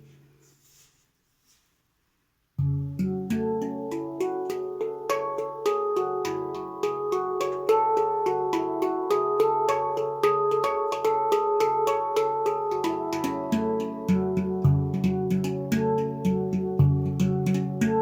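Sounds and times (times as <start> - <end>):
steel drum melody: 2.6 - 18.0.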